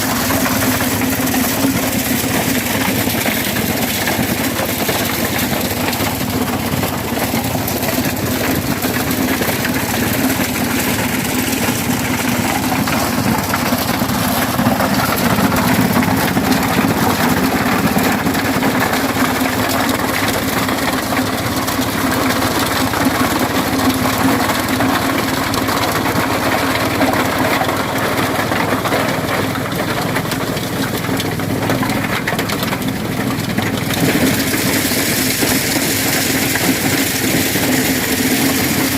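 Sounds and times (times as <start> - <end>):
engine hum: 0.0 - 38.9
threshing machine clatter: 0.0 - 38.9.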